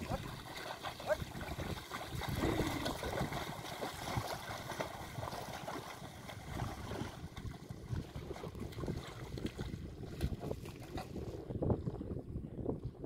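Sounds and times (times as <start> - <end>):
mud and water sloshing: 0.0 - 11.9.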